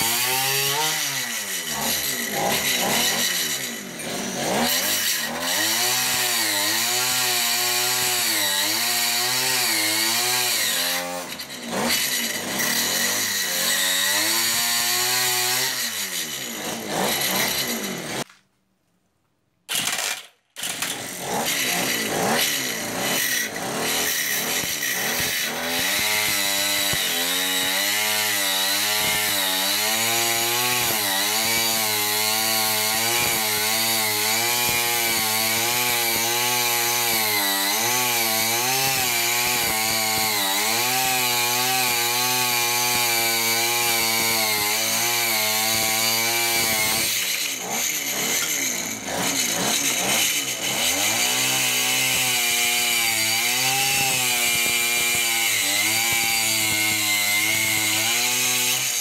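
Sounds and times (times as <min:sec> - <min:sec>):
brushcutter engine at high speed: 0:00.0 - 0:18.3, 0:19.8 - 0:59.0.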